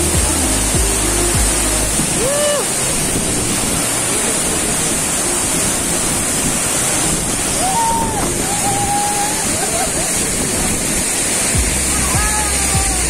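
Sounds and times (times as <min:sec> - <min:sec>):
waterfall rushing onto rocks: 0:00.0 - 0:13.0.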